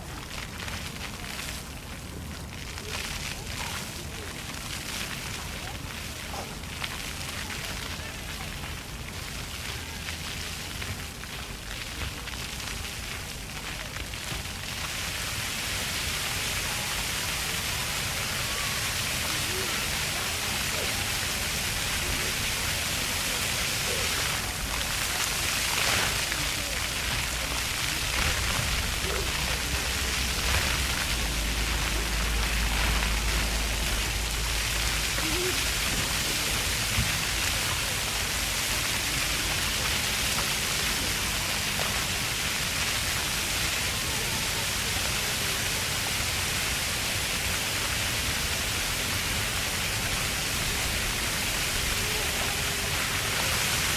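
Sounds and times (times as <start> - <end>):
faint children's voices: 0.0 - 53.9
fountain water splashing on paving: 0.0 - 53.9.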